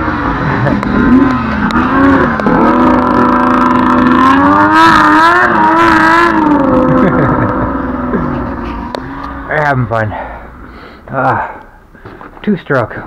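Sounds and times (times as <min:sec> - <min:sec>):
snowmobile engines revving: 0:00.0 - 0:11.4.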